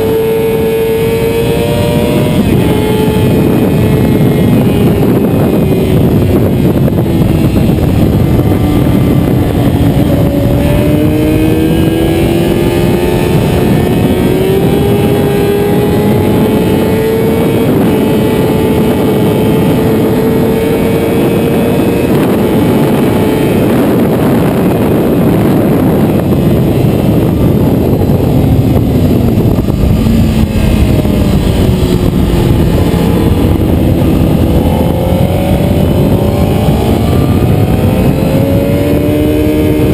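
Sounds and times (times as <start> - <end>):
heavy rushing noise: 0.0 - 39.9
motorcycle engine at speed: 0.0 - 39.9.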